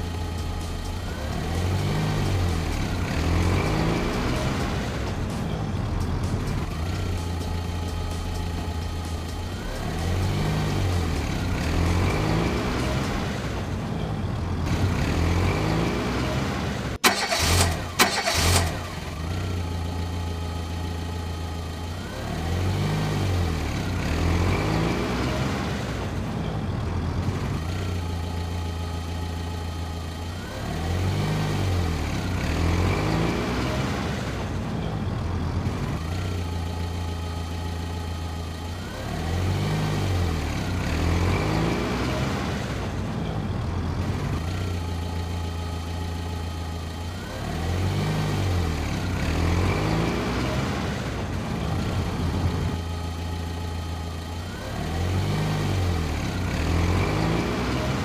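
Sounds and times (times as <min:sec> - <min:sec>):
tractor-like engine running: 0:00.0 - 0:58.0.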